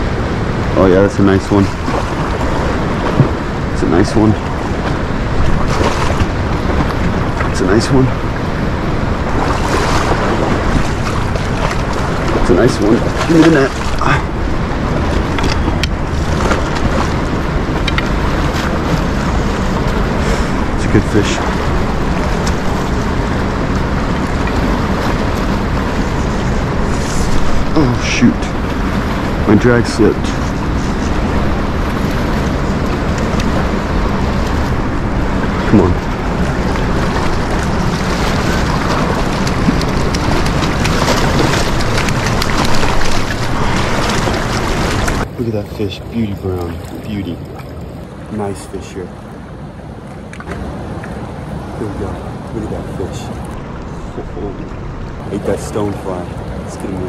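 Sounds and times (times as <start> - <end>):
flowing river water: 0.0 - 57.0
wind on microphone: 0.0 - 57.0.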